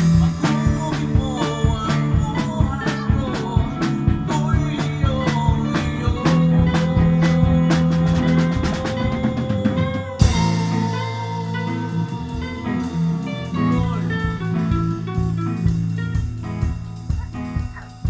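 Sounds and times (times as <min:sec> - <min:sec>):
live band playing: 0:00.0 - 0:18.0
melodic electric guitar line: 0:00.0 - 0:18.0.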